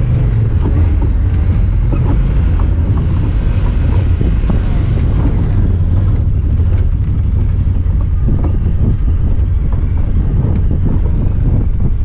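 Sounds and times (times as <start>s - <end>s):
knocks and rattles: 0.0s - 12.0s
vehicle engine running: 0.0s - 12.0s
wind on microphone: 0.0s - 12.0s.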